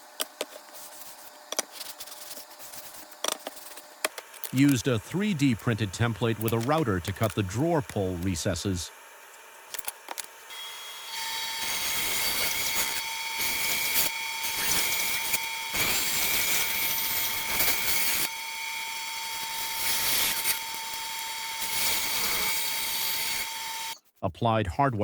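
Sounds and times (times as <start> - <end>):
router whining while cutting wood: 3.9 - 24.0.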